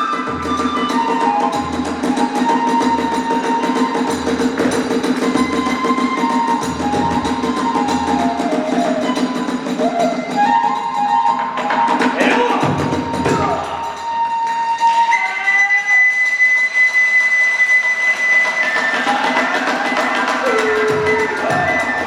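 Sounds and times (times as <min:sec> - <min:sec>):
flute melody: 0:00.0 - 0:22.0.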